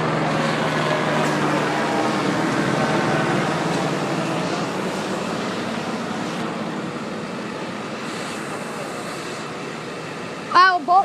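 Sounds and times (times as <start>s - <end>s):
vehicle and road noise: 0.0s - 11.0s.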